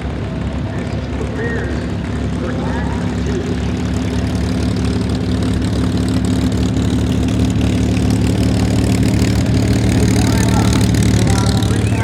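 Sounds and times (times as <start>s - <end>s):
aircraft piston engine running: 0.0s - 12.0s.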